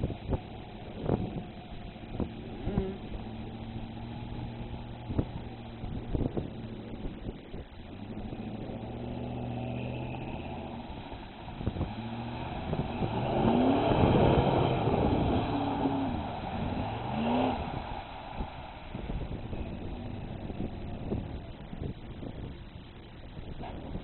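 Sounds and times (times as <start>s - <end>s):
pickup engine revving: 0.0s - 22.6s.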